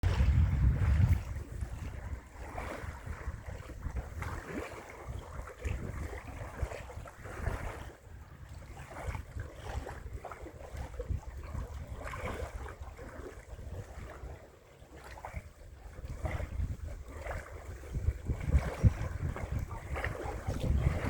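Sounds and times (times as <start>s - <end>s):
small waves lapping: 0.0s - 21.0s
wind buffeting microphone: 0.0s - 21.0s.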